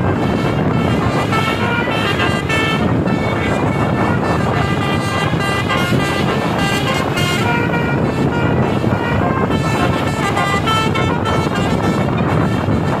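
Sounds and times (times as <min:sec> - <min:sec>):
bus rumble: 0:00.0 - 0:13.0
multi-tone bus horn melody: 0:00.0 - 0:13.0
traffic: 0:00.0 - 0:13.0.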